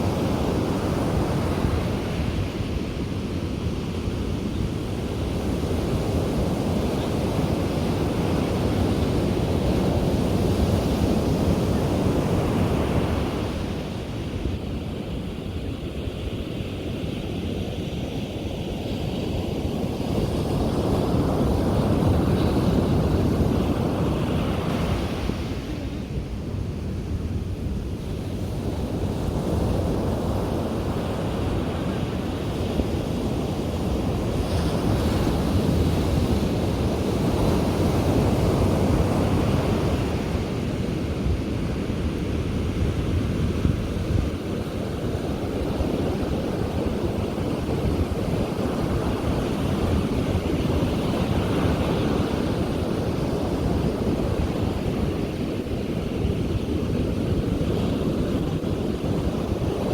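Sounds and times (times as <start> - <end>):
ocean waves breaking on beach: 0.0 - 59.9
wind buffeting microphone: 0.0 - 59.9.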